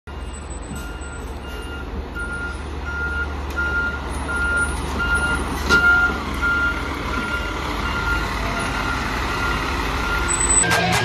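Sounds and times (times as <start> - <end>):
backup alarm beeping: 0.1 - 11.0
truck engine rumble: 0.1 - 11.0.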